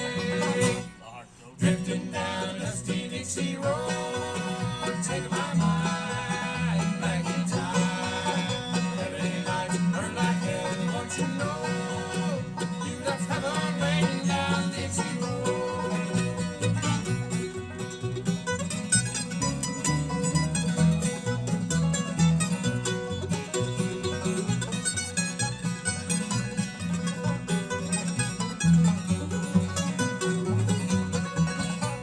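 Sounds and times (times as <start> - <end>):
bluegrass band instrumental: 0.0 - 32.0.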